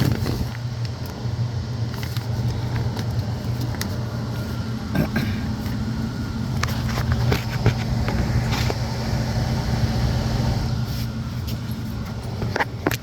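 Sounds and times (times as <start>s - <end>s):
blower fan humming: 0.0s - 13.0s.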